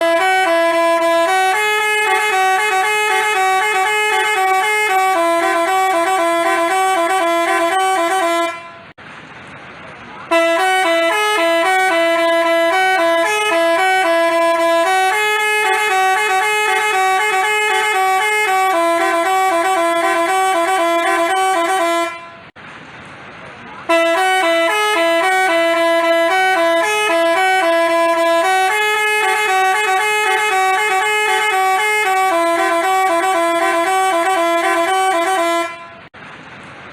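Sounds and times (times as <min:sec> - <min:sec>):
musical bus horn melody: 0:00.0 - 0:09.0, 0:10.3 - 0:22.6, 0:23.9 - 0:36.2.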